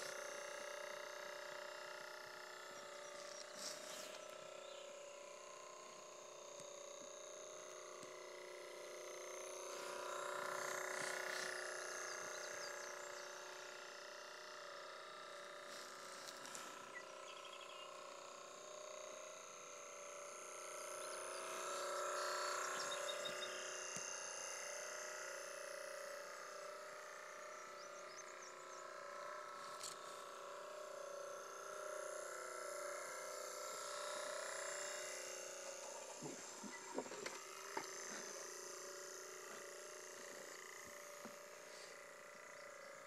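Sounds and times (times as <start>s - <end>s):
small electric motor whine: 0.0s - 43.0s.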